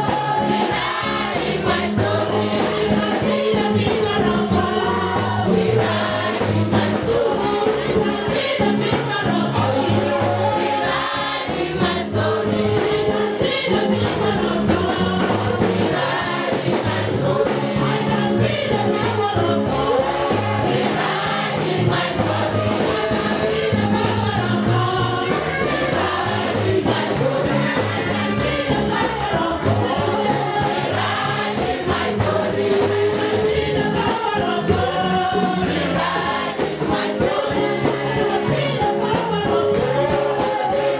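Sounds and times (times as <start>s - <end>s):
choir and congregation singing: 0.0s - 40.9s
gospel instrumental backing: 0.0s - 40.9s.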